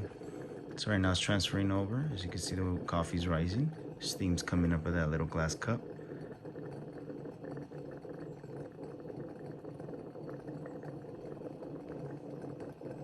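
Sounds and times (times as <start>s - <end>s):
water boiling and bubbling: 0.0s - 13.0s.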